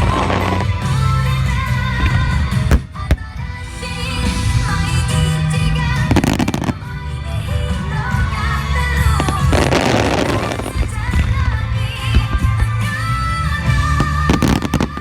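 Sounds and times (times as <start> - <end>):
fireworks bursting: 0.0 - 15.0
loud background music: 0.0 - 15.0.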